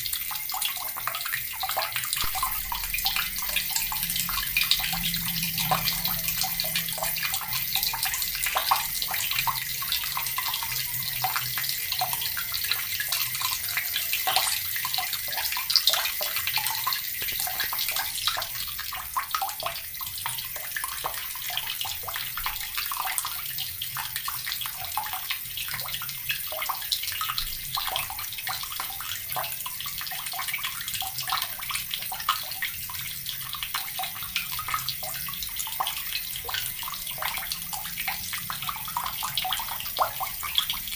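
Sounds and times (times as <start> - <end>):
tap water pouring into bucket: 0.0 - 40.9.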